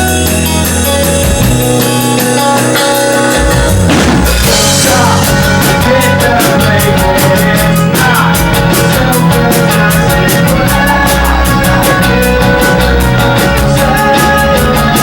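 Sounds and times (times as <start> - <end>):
guitar notes ringing: 0.0 - 14.0
rock band playing: 0.0 - 15.0.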